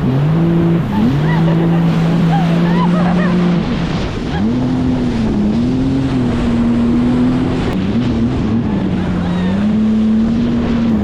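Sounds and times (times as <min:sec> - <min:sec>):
jet ski engine running: 0:00.0 - 0:11.0
rush of wind and water: 0:00.0 - 0:11.0.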